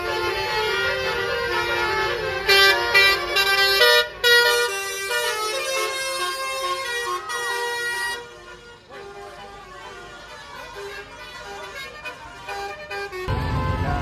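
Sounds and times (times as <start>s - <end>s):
musical vehicle horn melody: 0.0s - 14.0s.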